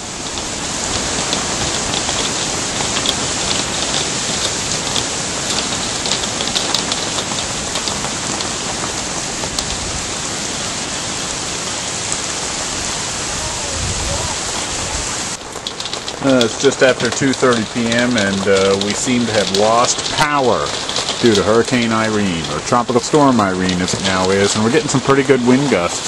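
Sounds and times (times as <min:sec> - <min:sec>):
heavy rain hissing: 0:00.0 - 0:26.0
raindrops ticking close by: 0:00.0 - 0:26.0.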